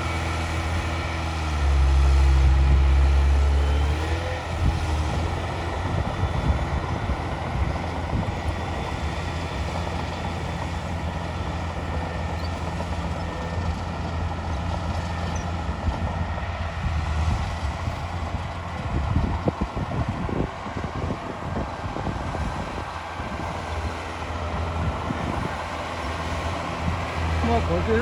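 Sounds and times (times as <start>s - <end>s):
diesel engine droning under load: 0.0s - 28.0s.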